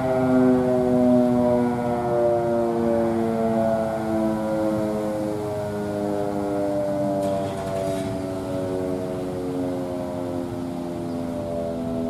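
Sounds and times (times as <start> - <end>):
warning siren winding down: 0.0 - 12.0.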